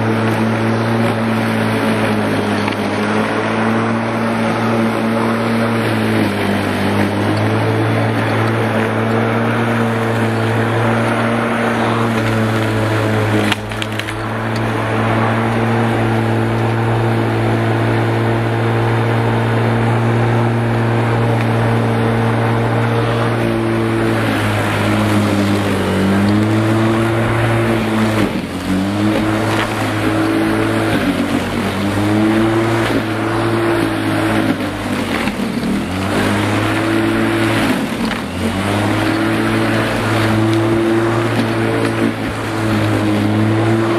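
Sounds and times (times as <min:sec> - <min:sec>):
electric lawn mower running: 0:00.0 - 0:43.9
hiss of cut grass: 0:00.0 - 0:43.9.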